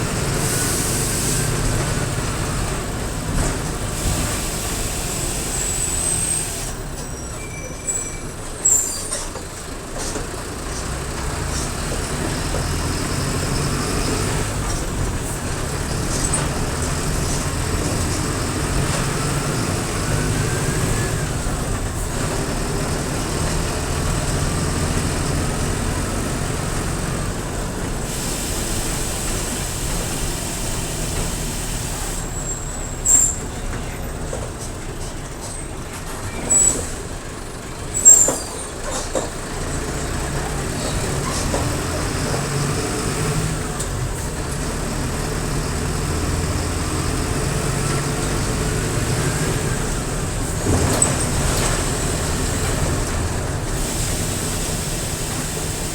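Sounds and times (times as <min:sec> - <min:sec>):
diesel bus engine running: 0:00.0 - 0:55.9.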